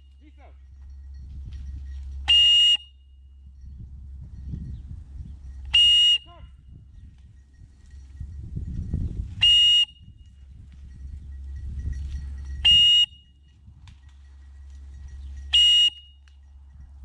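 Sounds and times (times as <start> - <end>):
low rumble: 0.0 - 2.3, 2.9 - 5.8, 6.5 - 15.6.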